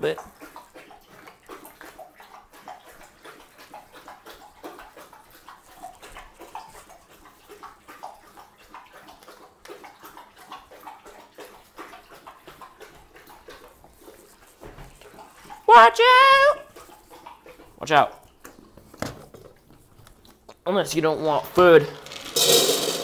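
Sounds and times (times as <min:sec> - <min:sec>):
dogs lapping and chewing: 0:00.0 - 0:22.0.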